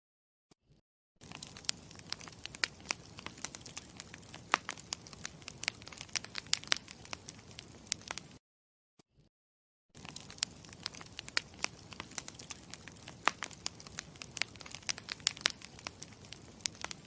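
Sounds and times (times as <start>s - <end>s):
campfire crackling: 1.2s - 8.4s, 10.0s - 17.0s.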